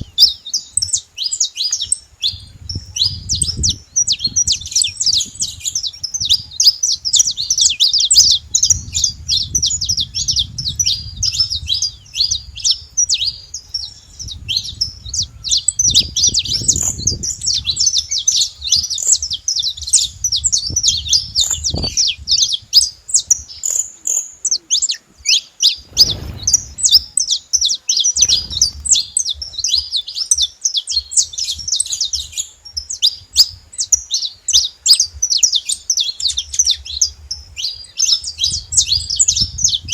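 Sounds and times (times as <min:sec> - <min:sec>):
finch singing chirps and trills: 0:00.0 - 0:39.9.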